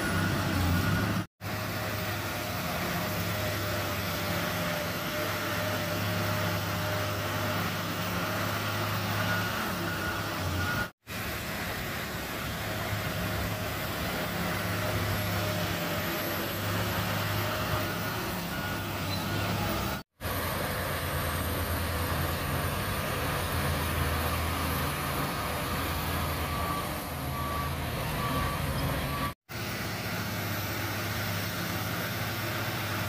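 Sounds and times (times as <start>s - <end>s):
bulldozer diesel engine humming: 0.0s - 33.0s.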